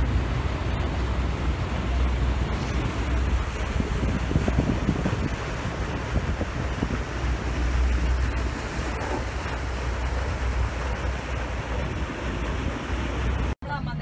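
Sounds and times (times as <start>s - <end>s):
water rushing past hull: 0.0s - 13.6s
wind buffeting microphone: 0.0s - 13.6s
boat engine rumble: 0.0s - 14.0s.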